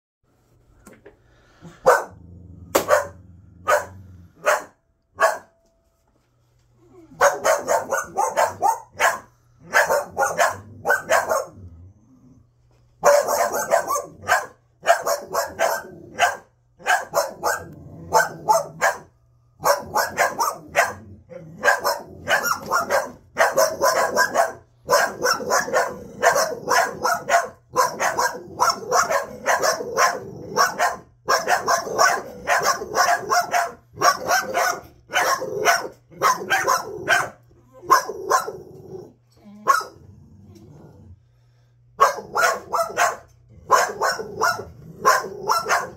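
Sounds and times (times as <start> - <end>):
dogs barking: 1.7 - 5.6, 7.1 - 11.7, 13.0 - 39.0, 39.6 - 40.1, 42.0 - 45.9.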